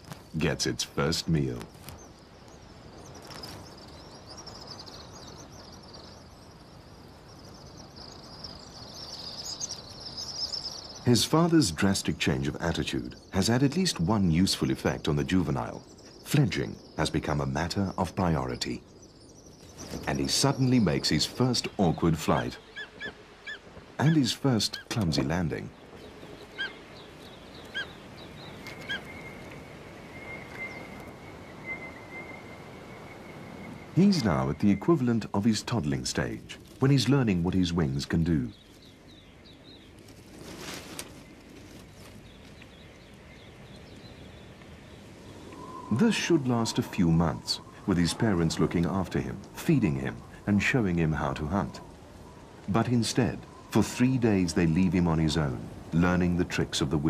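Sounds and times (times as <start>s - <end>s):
faint bird chirps: 0.0s - 40.0s, 40.6s - 56.6s
bird calls: 0.0s - 57.0s
steady background hiss: 0.0s - 57.0s.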